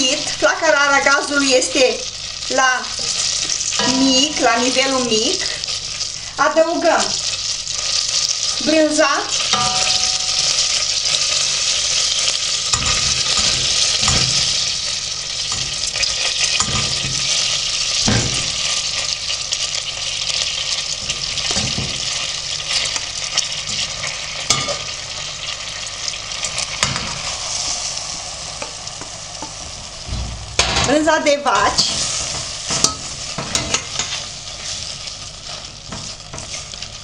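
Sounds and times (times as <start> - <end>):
butter sizzling in a pot: 0.0 - 37.0.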